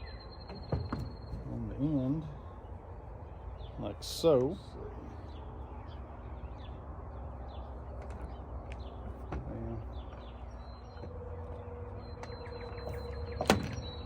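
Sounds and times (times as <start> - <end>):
low outdoor rumble: 0.0 - 14.0
small birds chirping: 0.0 - 14.0.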